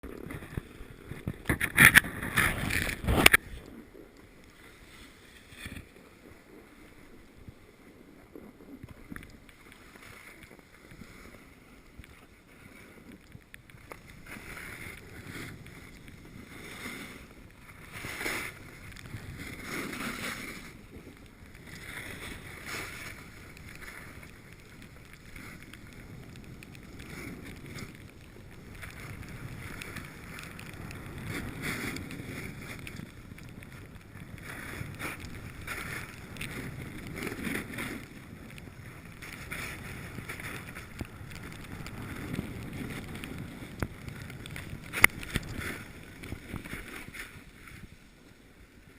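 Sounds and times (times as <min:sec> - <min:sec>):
wind on microphone: 0:00.0 - 0:48.9
snowboard scraping across snow: 0:00.1 - 0:48.9.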